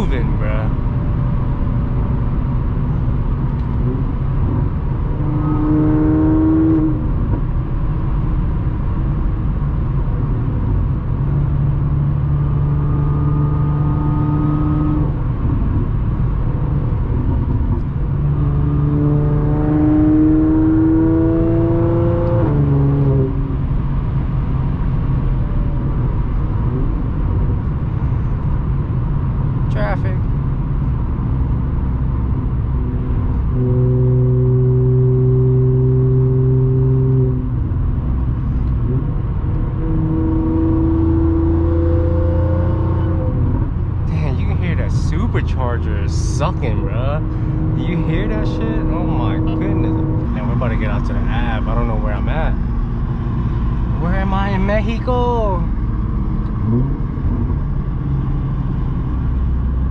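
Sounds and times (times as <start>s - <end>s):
car exhaust drone: 0.0s - 59.9s
road noise: 0.0s - 59.9s.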